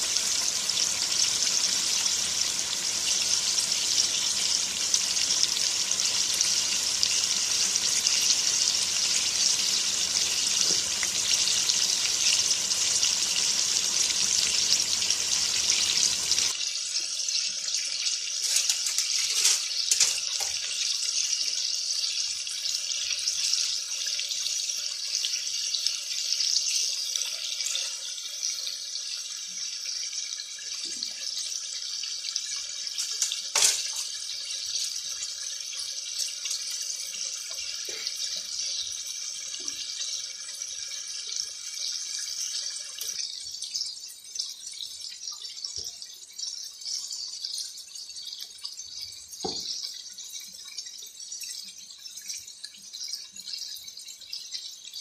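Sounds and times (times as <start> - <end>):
chicken sizzling in oil: 0.0 - 55.0.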